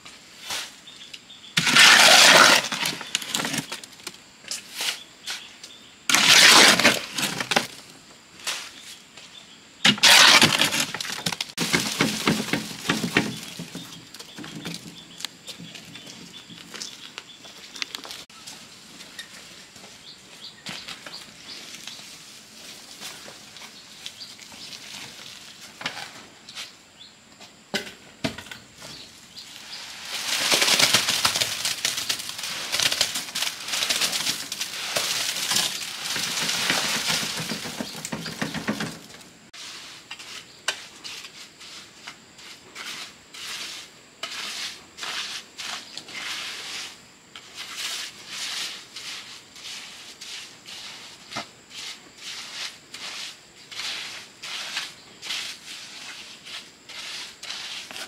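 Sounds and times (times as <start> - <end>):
hand tools scraping sand and cement: 0.4 - 3.8, 4.5 - 7.8, 8.4 - 9.0, 9.8 - 26.8, 28.8 - 38.9, 39.5 - 58.0.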